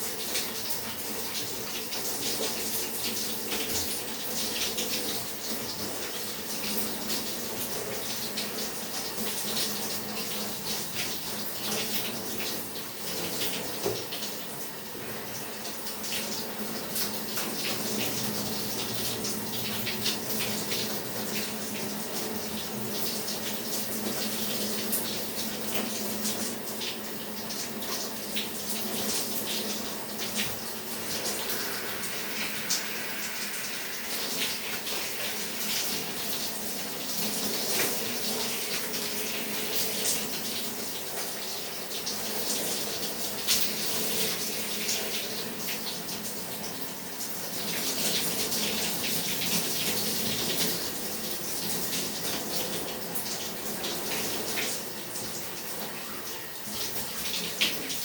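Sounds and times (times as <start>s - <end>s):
shower water splashing: 0.0s - 58.0s.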